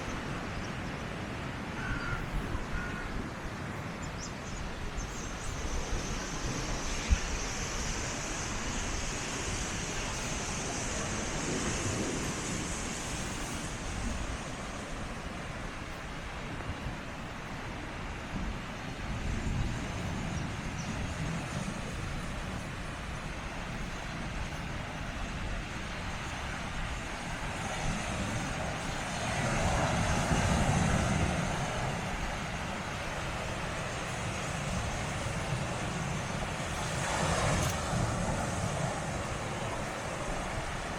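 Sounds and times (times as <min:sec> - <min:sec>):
sea waves washing onto shore: 0:00.0 - 0:40.9.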